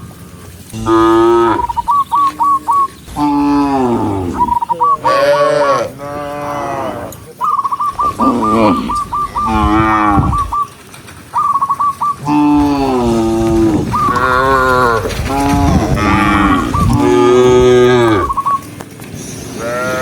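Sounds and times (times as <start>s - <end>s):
cattle mooing: 0.7s - 7.3s, 7.9s - 10.6s, 12.2s - 18.5s, 19.5s - 20.0s.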